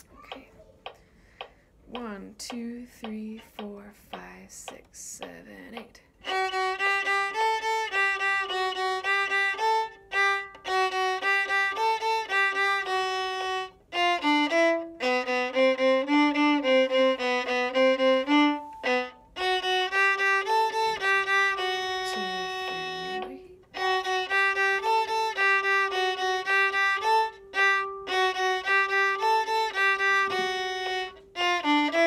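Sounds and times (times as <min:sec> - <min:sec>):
solo viola bowed: 0:06.2 - 0:32.0.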